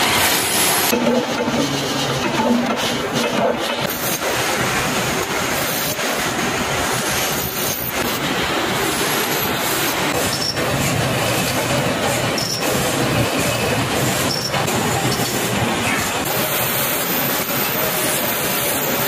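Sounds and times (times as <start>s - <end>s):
machine tools running: 0.0s - 19.0s.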